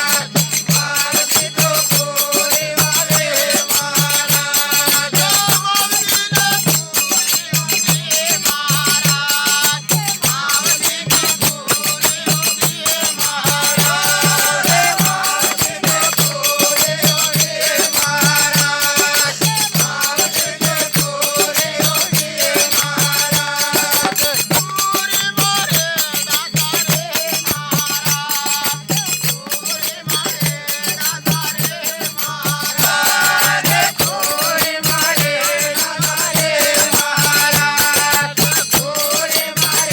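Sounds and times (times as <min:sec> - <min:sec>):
jingling rattling percussion: 0:00.0 - 0:39.9
steady drum beat: 0:00.0 - 0:39.9.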